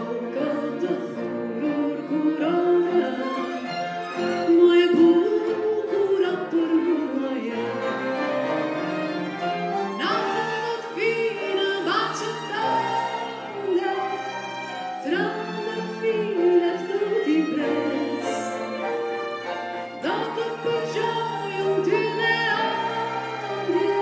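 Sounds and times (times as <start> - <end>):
woman singing with vibrato: 0.0 - 3.8, 4.4 - 7.9, 10.0 - 14.4, 15.0 - 18.6, 20.0 - 24.0
piano: 0.0 - 24.0
string quartet: 0.0 - 24.0.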